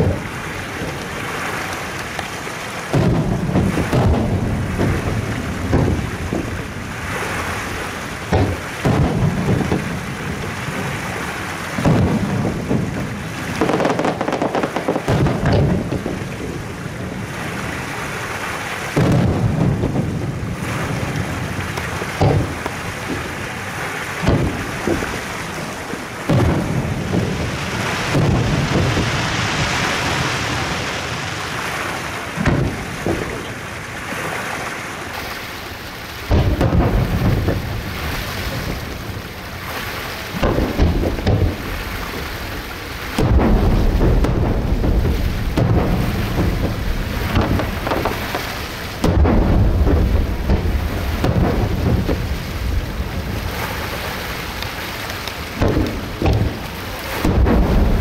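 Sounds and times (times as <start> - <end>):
fireworks booming: 0.0 - 31.6, 32.3 - 33.8, 35.1 - 58.0.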